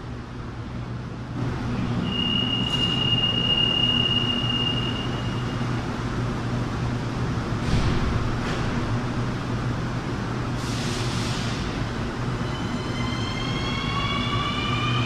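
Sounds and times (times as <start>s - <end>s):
train low electrical hum: 0.0s - 15.0s.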